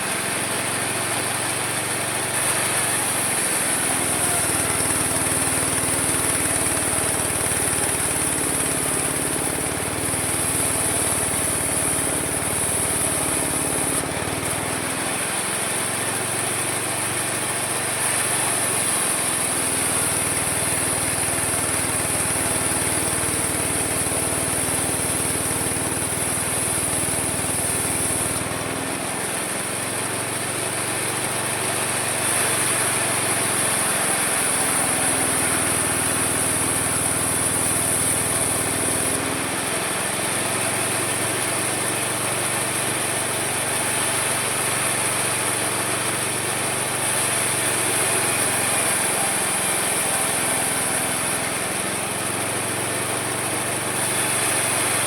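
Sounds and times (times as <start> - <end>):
sawmill sawing through wood: 0.0 - 55.0.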